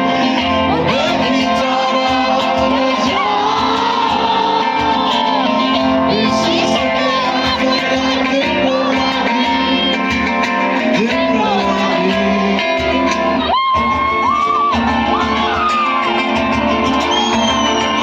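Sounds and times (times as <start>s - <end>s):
electric guitar lead bending notes: 0.0s - 18.0s
live rock band playing: 0.0s - 18.0s.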